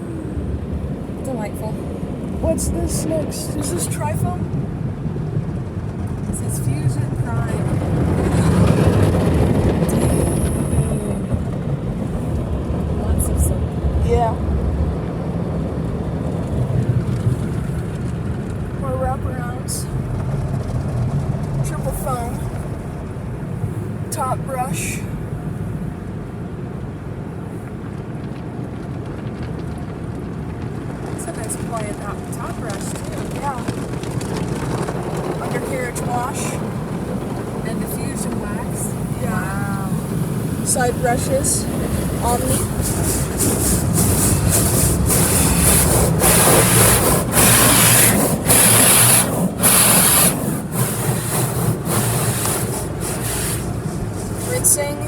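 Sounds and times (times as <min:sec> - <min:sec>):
car wash brush rumbling: 0:00.0 - 0:55.0.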